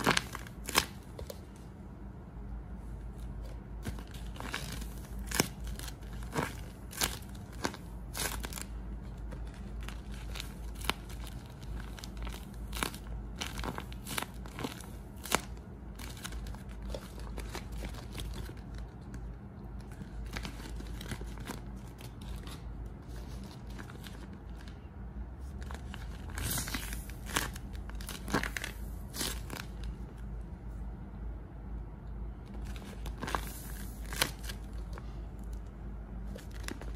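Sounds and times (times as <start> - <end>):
paper squishies crinkling: 0.0 - 1.6, 3.1 - 30.3, 32.4 - 36.9.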